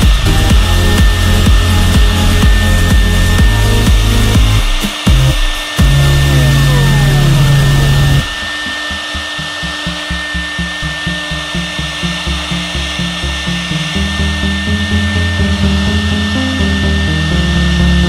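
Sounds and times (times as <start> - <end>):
background music with beat: 0.0 - 18.0
router spindle whining: 0.0 - 18.0.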